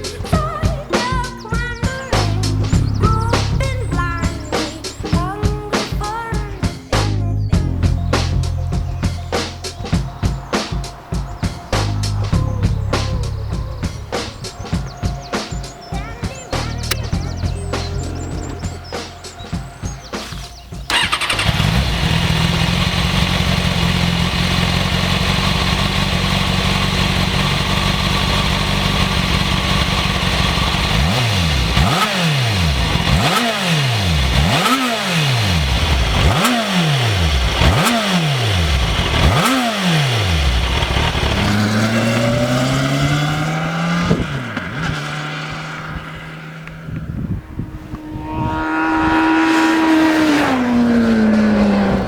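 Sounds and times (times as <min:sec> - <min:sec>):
motorcycle engine idling: 0:00.0 - 0:52.0
motorcycle engine revving: 0:00.0 - 0:52.0
motorcycle engine starting: 0:00.0 - 0:52.0.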